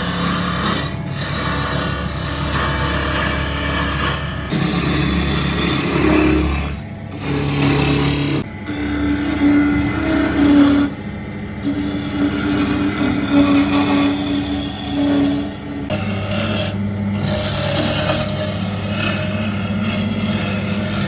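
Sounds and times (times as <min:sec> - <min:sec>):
chisel hissing on spinning wood: 0:00.0 - 0:10.9, 0:11.6 - 0:21.0
lathe motor hum: 0:00.0 - 0:21.0.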